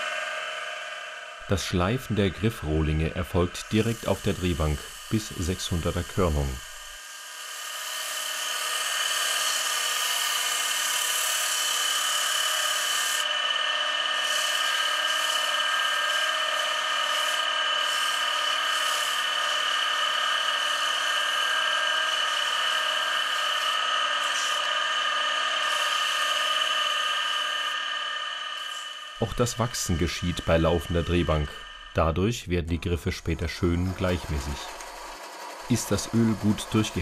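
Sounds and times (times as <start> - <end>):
wood lathe whining: 0.0 - 37.0
sandpaper hissing on spinning wood: 2.4 - 32.2, 33.0 - 37.0.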